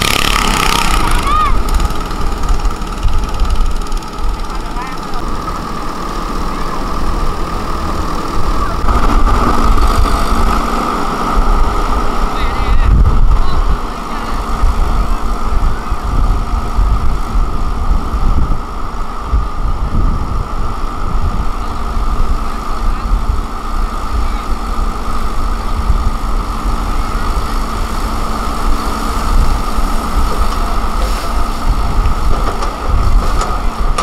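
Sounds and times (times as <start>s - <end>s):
diesel engine rumbling: 0.0s - 34.0s
steady engine whine: 0.0s - 34.0s.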